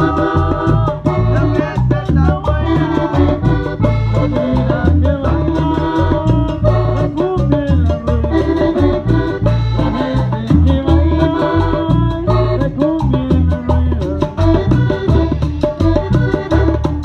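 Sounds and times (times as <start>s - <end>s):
band music with bass and percussion: 0.0s - 17.0s.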